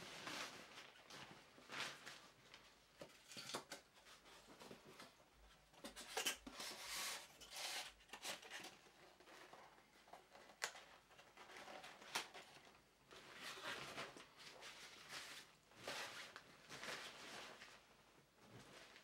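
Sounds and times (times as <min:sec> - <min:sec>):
rustling and scraping packaging: 0:00.0 - 0:19.0.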